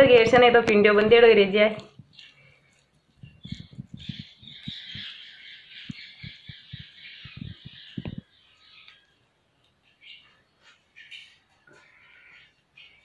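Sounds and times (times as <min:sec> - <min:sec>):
wet squelching of squeezed leaves: 0:01.1 - 0:13.0
birds chattering and squawking: 0:02.0 - 0:13.0.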